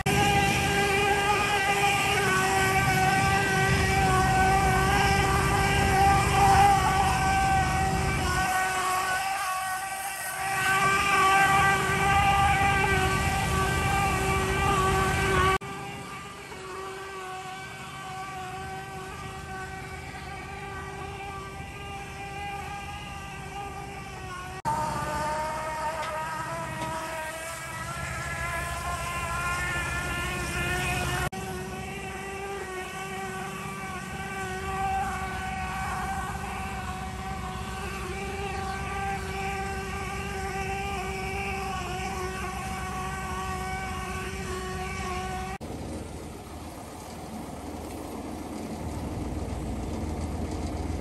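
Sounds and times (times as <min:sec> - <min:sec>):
motor buzzing drone: 0:00.0 - 0:51.0
rough low engine rumble: 0:00.0 - 0:51.0.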